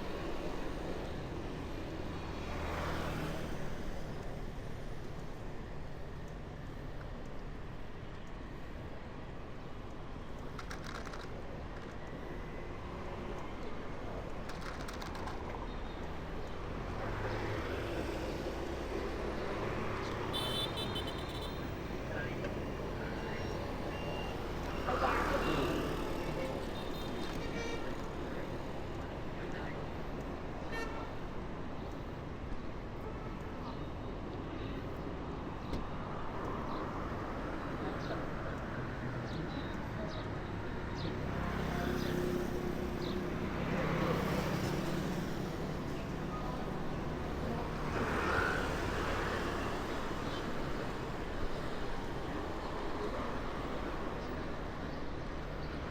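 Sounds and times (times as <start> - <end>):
street traffic passing: 0.0 - 55.9.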